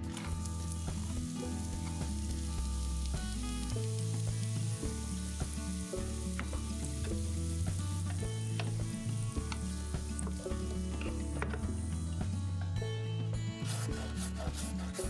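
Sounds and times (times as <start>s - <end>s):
onion sizzling in oil: 0.0s - 12.4s
background music with bass: 0.0s - 15.0s.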